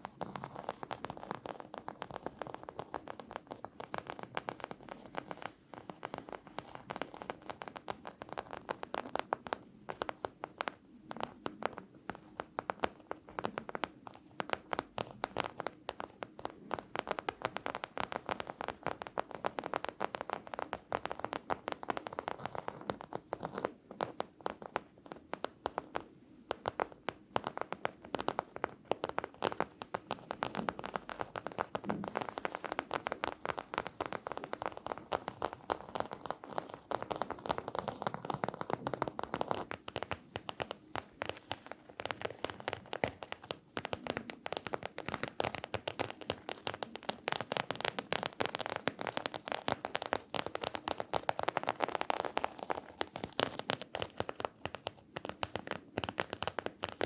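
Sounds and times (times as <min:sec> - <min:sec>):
fast tapping on objects: 0:00.0 - 0:57.0.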